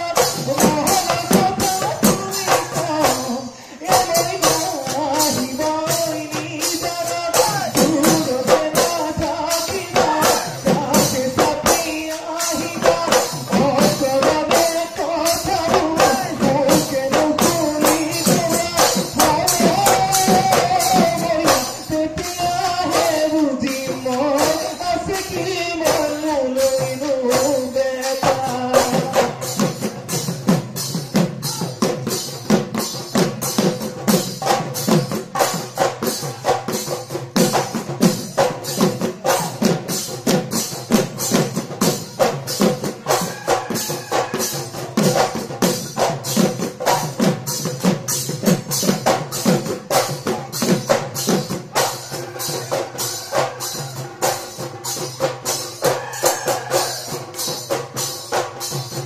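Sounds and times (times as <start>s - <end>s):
drums in fast rhythm: 0.0s - 59.0s.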